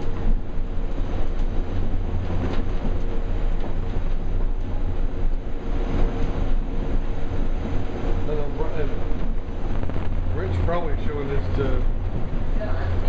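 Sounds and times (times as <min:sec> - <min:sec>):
faint steady hum: 0:00.0 - 0:13.0
tram car low rumble: 0:00.0 - 0:13.0.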